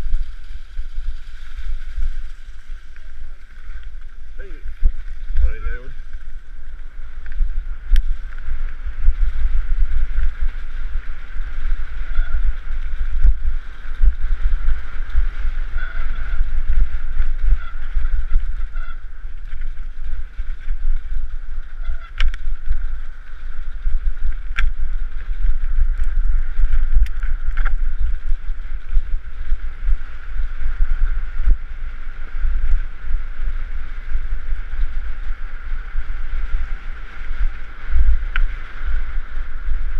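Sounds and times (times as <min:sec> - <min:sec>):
bike tyres rattling over stony trail: 0:00.0 - 0:39.9
wind buffeting microphone: 0:00.0 - 0:39.9.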